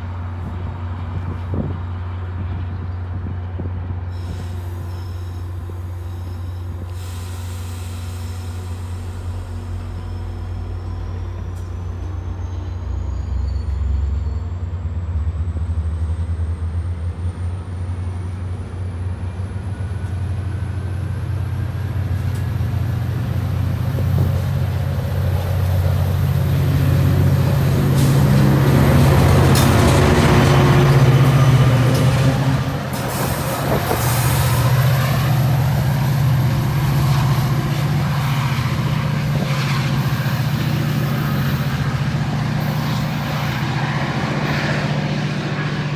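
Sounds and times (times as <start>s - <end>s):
low diesel engine drone: 0.0s - 45.9s
train wheels on rails: 0.0s - 45.9s.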